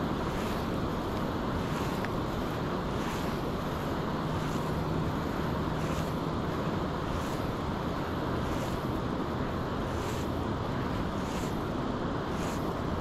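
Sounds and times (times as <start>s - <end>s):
stream water rushing: 0.0s - 13.0s
wind on microphone: 0.0s - 13.0s.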